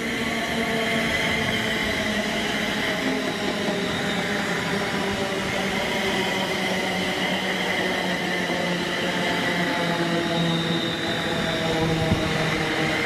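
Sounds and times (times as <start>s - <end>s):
train motor whine: 0.0s - 13.0s
train wheels rumbling on rails: 0.0s - 13.0s.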